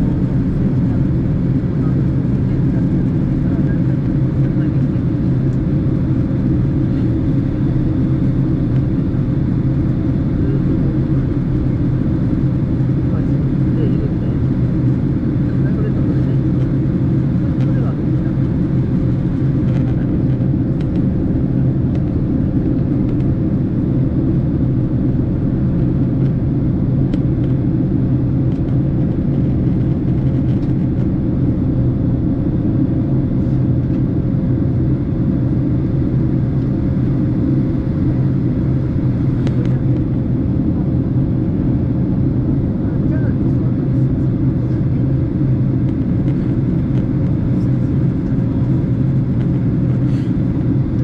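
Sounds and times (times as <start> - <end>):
engine and air rumble: 0.0 - 51.0.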